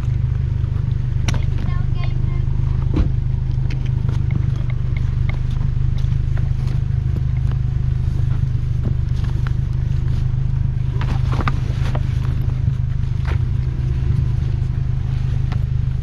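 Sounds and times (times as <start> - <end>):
engine running low hum: 0.0 - 16.0.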